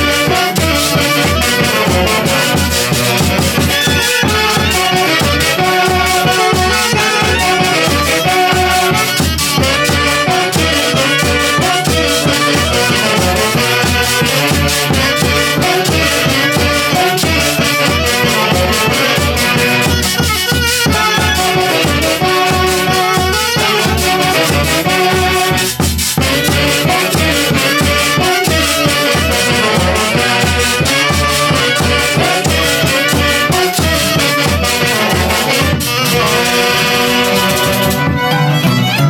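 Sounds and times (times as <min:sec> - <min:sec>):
orchestra playing melody over bass beat: 0:00.0 - 0:39.0.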